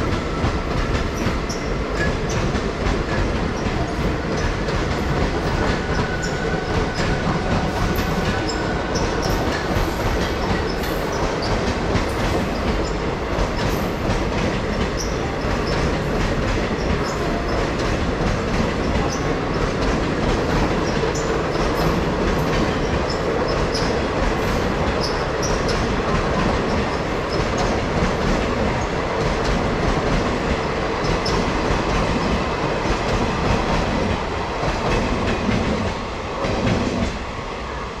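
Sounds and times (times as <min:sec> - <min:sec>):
train wheels rumbling and clattering: 0:00.0 - 0:38.0.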